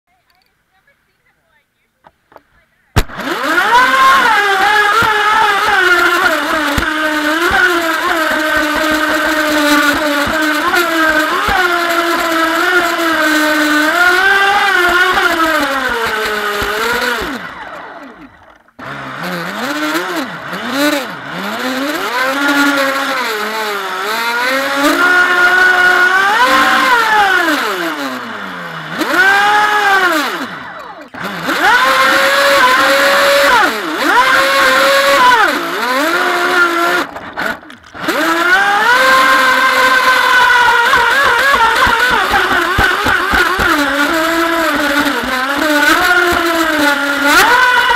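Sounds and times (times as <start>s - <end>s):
electric motor whining: 3.0s - 47.9s.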